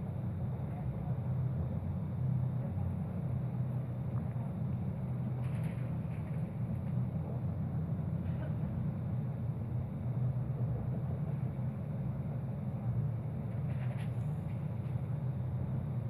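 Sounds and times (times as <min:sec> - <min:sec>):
train rumbling inside carriage: 0:00.0 - 0:16.0.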